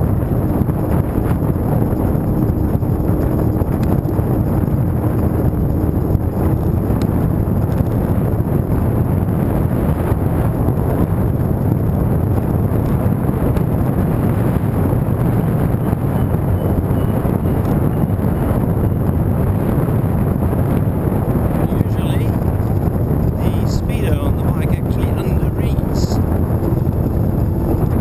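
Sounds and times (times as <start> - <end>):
faint steady whine: 0.0 - 28.0
wind buffeting microphone: 0.0 - 28.0.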